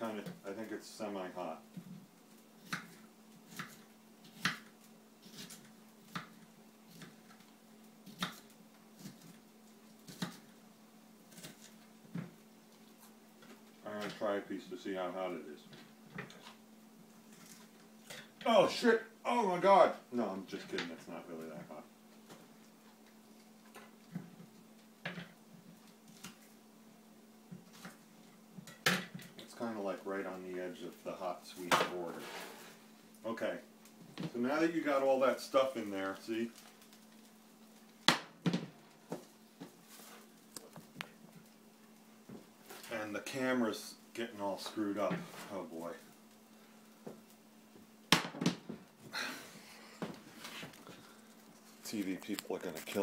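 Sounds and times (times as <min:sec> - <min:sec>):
faint hum: 0:00.0 - 0:48.1, 0:48.7 - 0:53.0.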